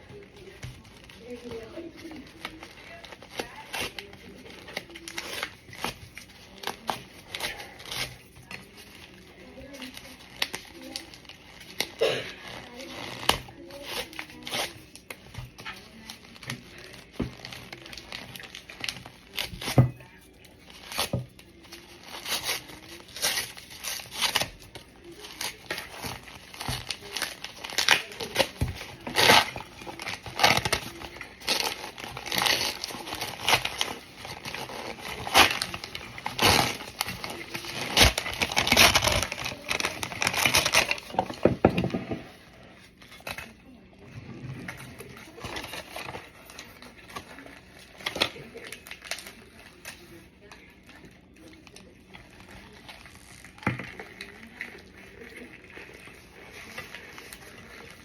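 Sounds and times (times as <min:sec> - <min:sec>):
hardened cornstarch crunching: 0:00.0 - 0:58.0.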